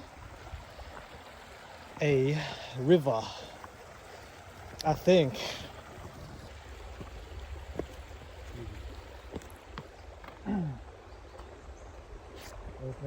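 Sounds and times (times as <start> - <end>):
faint flowing stream water: 0.0 - 13.0.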